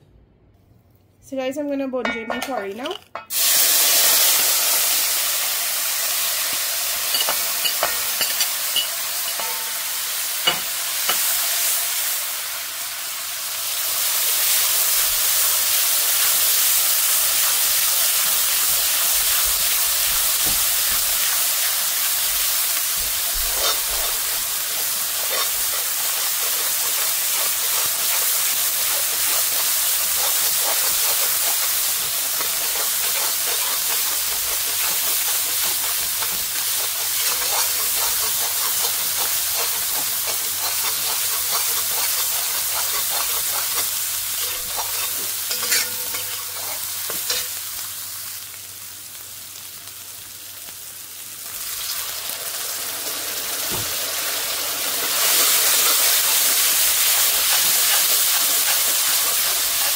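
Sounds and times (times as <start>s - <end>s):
seasoning sizzling in hot oil: 3.3s - 59.9s.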